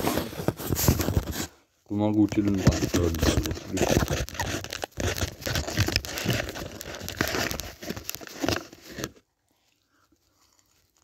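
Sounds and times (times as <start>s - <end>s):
paper wrapper crinkling and tearing: 0.0s - 9.3s, 10.1s - 11.0s.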